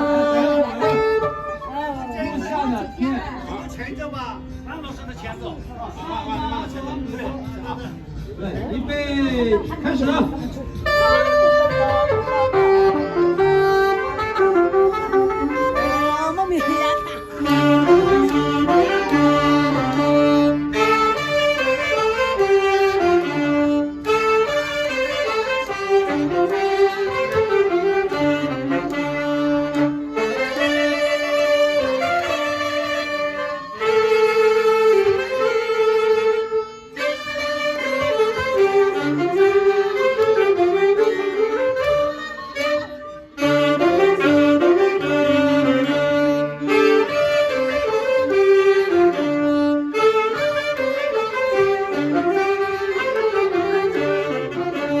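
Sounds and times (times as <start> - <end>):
small band playing a tune: 0.0 - 55.0.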